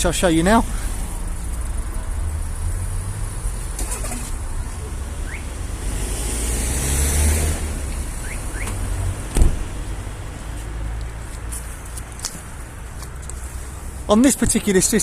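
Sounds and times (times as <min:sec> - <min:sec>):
vehicle passing rumble: 0:00.0 - 0:15.0.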